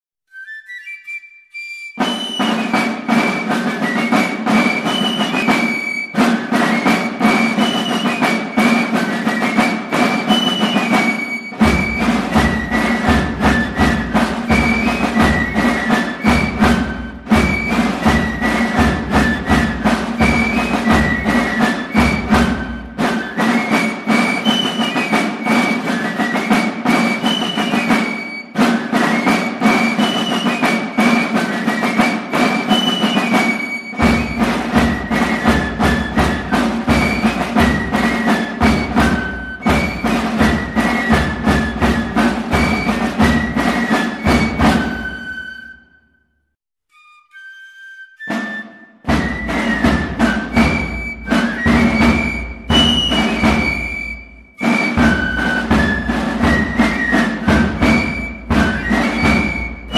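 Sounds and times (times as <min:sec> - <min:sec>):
fife melody: 0:00.3 - 0:46.0, 0:46.9 - 0:59.9
fast dense drumming: 0:02.2 - 0:45.3, 0:49.1 - 0:59.9.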